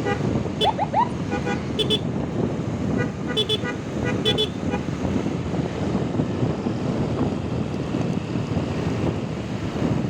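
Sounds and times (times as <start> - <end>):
road noise: 0.0 - 10.0
wind rushing over microphone: 0.0 - 10.0.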